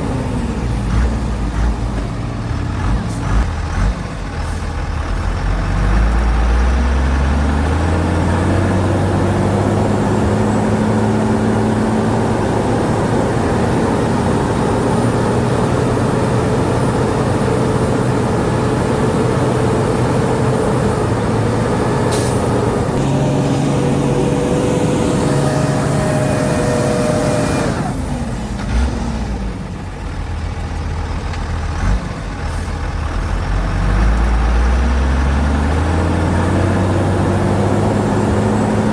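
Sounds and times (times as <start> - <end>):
heavy diesel engine revving: 0.0 - 38.9.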